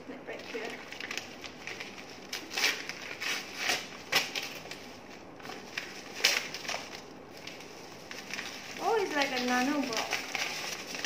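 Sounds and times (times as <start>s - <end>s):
wrapping paper tearing and crinkling: 0.3s - 11.0s.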